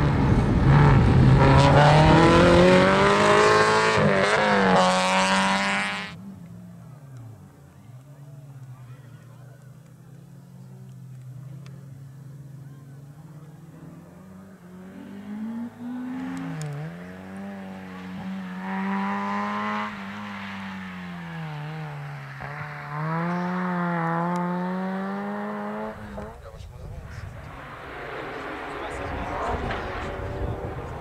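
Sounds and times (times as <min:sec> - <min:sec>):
rally car engine approaching: 0:00.0 - 0:31.0.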